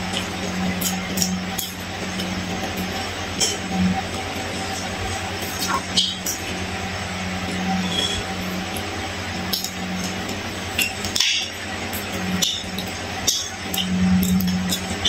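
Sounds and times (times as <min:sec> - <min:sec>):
man chewing food: 0:00.0 - 0:15.0
steady low hum: 0:00.0 - 0:15.0.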